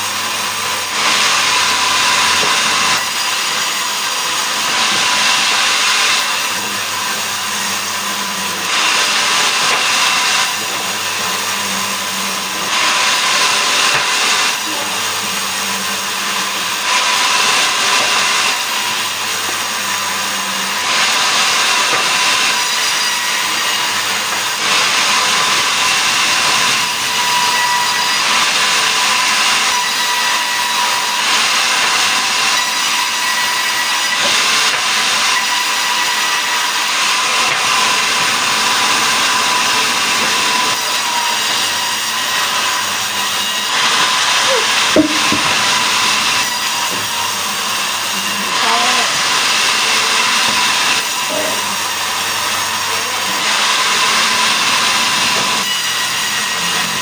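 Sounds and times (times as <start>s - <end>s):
sawmill saw cutting wood: 0.0s - 57.0s.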